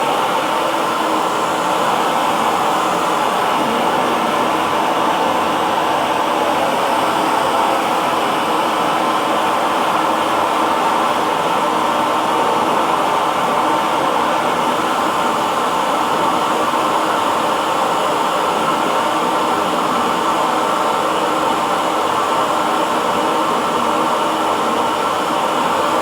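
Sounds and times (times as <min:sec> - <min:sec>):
hair dryer whirring: 0:00.0 - 0:26.0.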